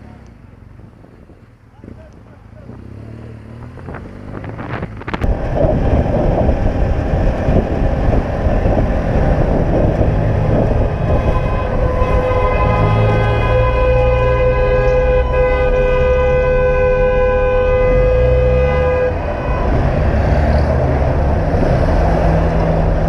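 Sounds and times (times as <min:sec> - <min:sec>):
wind rushing over microphone: 0:03.6 - 0:23.0.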